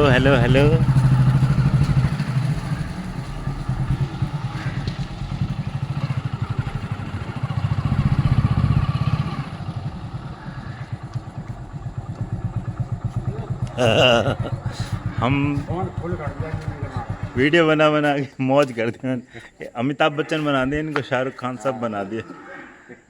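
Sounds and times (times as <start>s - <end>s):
motorcycle engine running: 0.0s - 18.7s.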